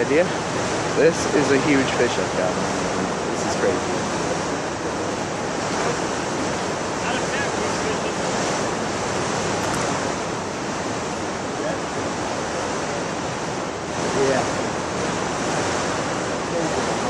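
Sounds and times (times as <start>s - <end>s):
turbulent river water rushing: 0.0s - 17.0s
wind on microphone: 0.0s - 17.0s.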